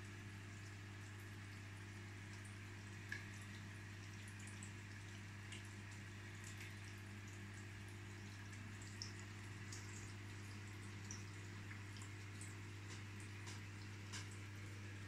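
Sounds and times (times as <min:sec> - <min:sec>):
aquarium pump humming: 0:00.0 - 0:15.0
water trickling: 0:00.1 - 0:15.0.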